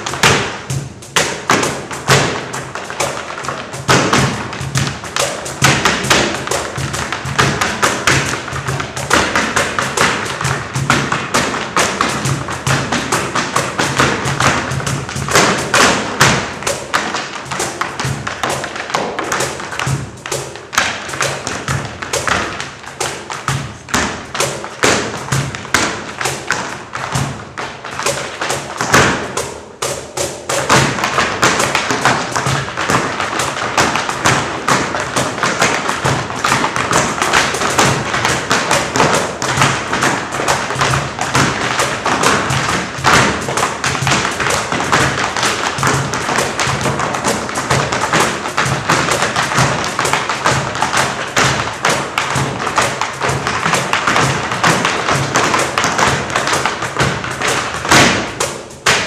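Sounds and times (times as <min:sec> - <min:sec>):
tap shoes on stage floor: 0:00.0 - 0:59.0.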